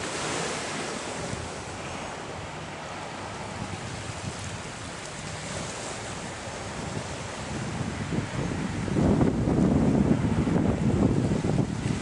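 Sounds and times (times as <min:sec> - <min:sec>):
choppy water washing: 0:00.0 - 0:12.0
wind buffeting microphone: 0:00.0 - 0:12.0.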